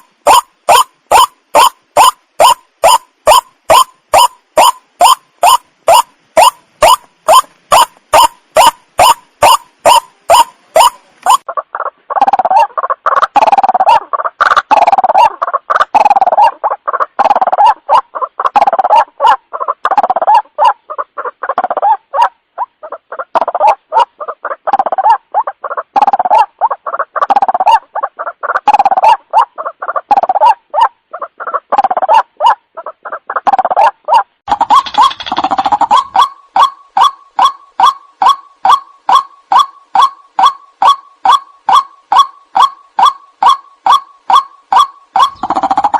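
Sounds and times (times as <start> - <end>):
waterhen croaking calls: 0.0 - 45.9.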